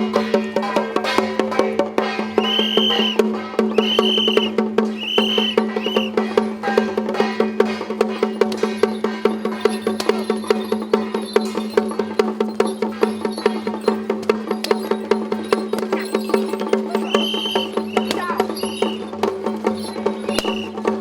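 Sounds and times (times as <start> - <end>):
fast woodblock-like beat: 0.0 - 21.0.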